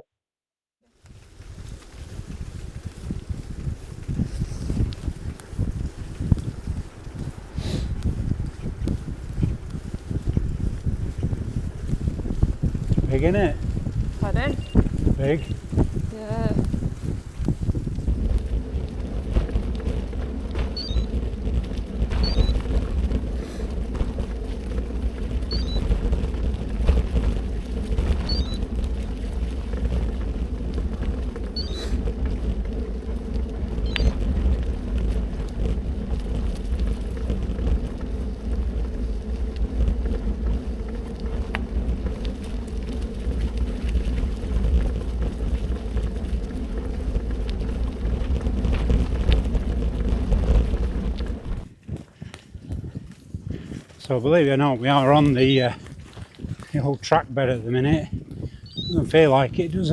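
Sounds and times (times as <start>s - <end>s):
bicycle tyres rumbling on gravel: 0.9s - 59.9s
wind on microphone: 1.0s - 59.9s.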